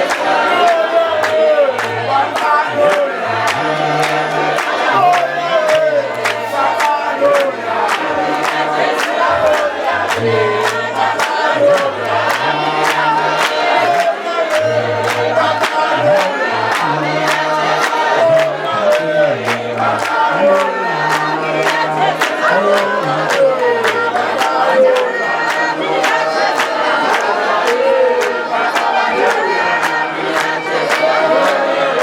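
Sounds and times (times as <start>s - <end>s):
choir singing gospel song: 0.0s - 32.0s.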